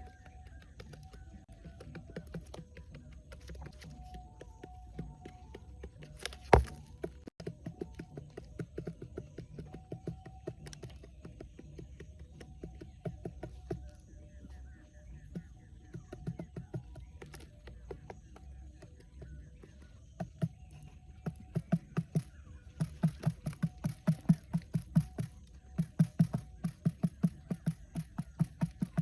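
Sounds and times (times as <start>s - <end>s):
light tapping and clicking: 0.0s - 29.0s.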